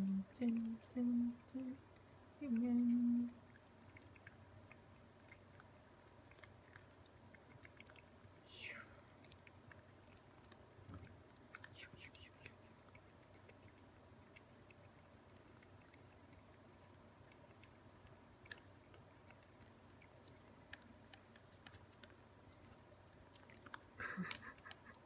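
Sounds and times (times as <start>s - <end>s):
cats licking paste: 1.7s - 25.0s.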